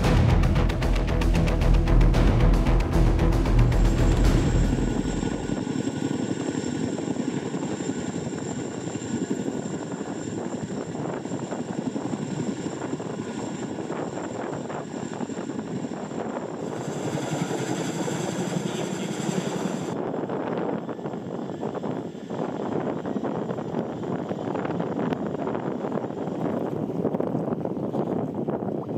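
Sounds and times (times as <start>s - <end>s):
high engine whine: 0.0s - 27.3s
helicopter hovering: 0.0s - 28.9s.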